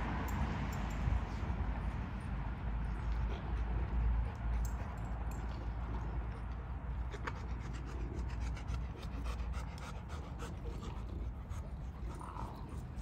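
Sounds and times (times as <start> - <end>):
dog panting: 2.1 - 13.0.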